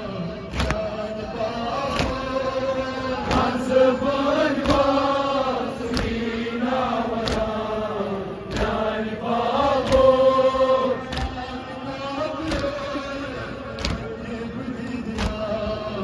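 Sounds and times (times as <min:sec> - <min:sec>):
men chanting a lament: 0:00.0 - 0:16.0.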